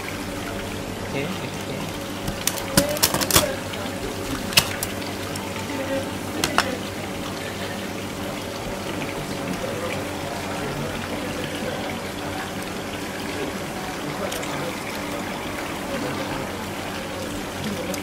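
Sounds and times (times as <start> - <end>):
low steady hum: 0.0 - 18.0
water running into steel basin: 0.0 - 18.0.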